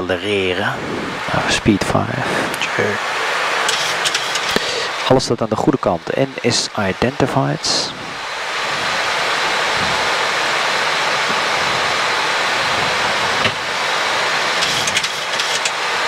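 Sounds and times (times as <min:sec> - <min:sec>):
rushing cockpit airflow noise: 0:00.0 - 0:16.0.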